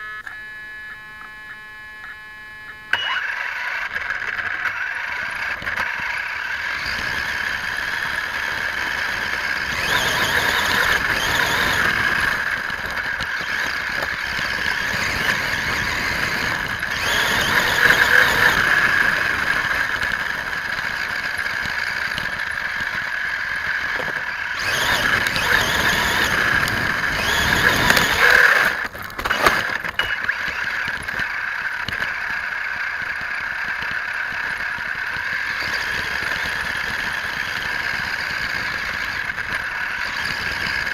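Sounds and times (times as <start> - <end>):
toy truck motor whine: 0.0 - 40.9
tyres on dirt: 2.9 - 40.9.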